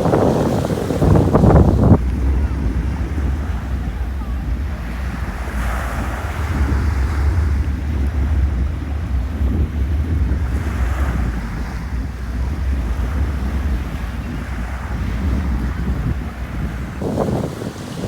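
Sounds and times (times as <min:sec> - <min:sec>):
surf washing in: 0:00.0 - 0:18.0
wind rumbling on microphone: 0:00.0 - 0:18.0.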